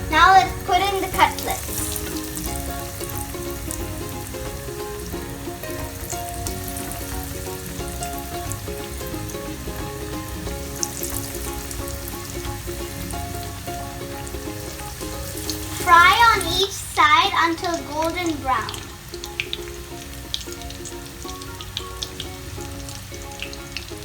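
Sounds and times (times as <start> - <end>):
chicken sizzling in hot oil: 0.0 - 24.0
soft background music: 0.0 - 24.0.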